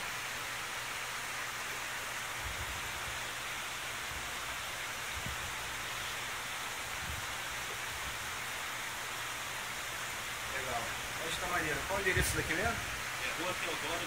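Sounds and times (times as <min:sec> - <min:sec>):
aquarium pumps and water rushing: 0:00.0 - 0:14.0.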